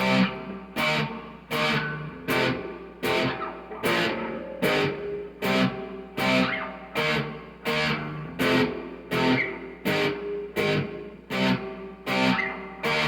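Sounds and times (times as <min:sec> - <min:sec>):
overdriven electric guitar chords: 0:00.0 - 0:13.0.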